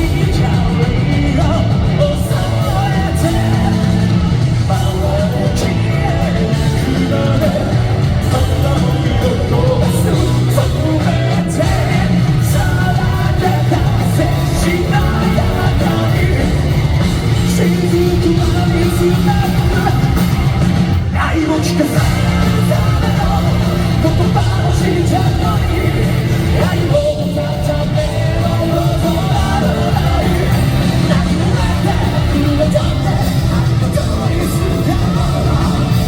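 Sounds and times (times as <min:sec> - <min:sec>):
drums: 0:00.0 - 0:36.0
electric guitars: 0:00.0 - 0:36.0
person singing: 0:00.0 - 0:36.0.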